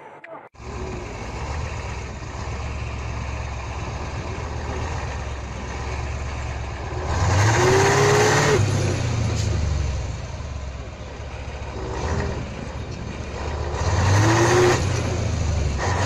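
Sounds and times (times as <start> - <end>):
truck diesel engine revving: 0.6 - 16.0.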